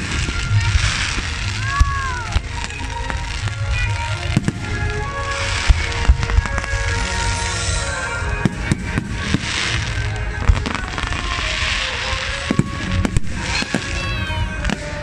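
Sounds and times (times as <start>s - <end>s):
fireworks bangs: 0.0s - 15.0s
fireworks hiss and crackle: 0.0s - 15.0s.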